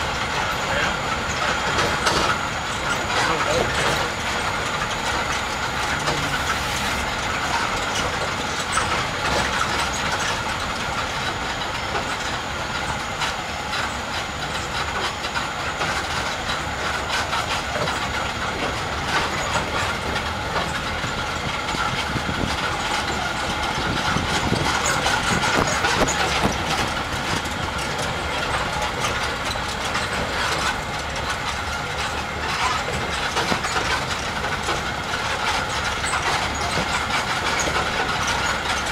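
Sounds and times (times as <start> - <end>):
tram engine running: 0.0 - 38.9.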